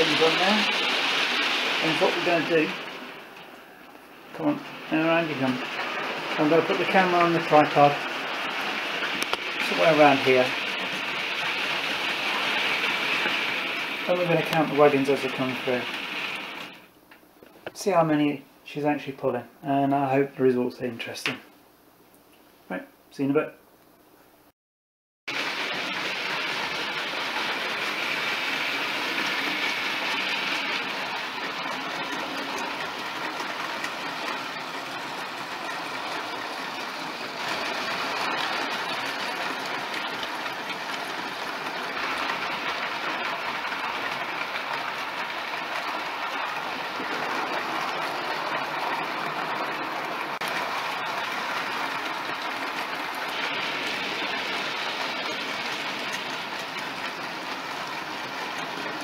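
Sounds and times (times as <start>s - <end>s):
model train wheels on rails: 0.0s - 20.2s, 25.3s - 59.0s.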